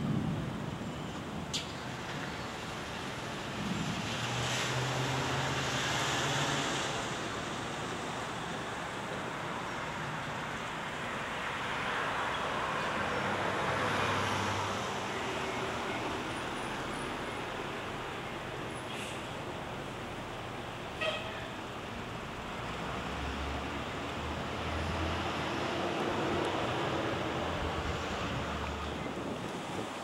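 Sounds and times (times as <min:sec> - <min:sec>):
road traffic noise: 0:00.0 - 0:30.0
vehicles passing with engine hum: 0:00.0 - 0:30.0.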